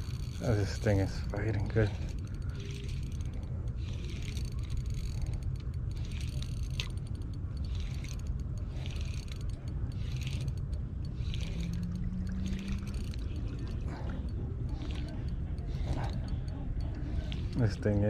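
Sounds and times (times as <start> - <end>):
fishing reel clicking: 0.0 - 18.0
steady low rumble: 0.0 - 18.0.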